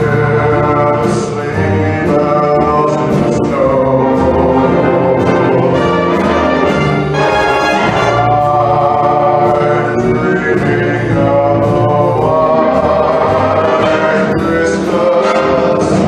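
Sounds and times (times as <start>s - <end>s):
person singing: 0.0s - 6.4s, 8.0s - 16.0s
orchestral swing music with brass: 0.0s - 16.0s.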